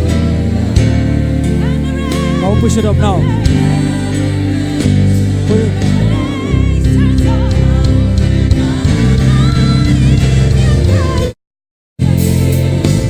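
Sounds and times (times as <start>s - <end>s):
band with strong bass: 0.0s - 11.4s, 12.0s - 13.0s
voices singing gospel: 0.0s - 11.4s, 12.0s - 13.0s.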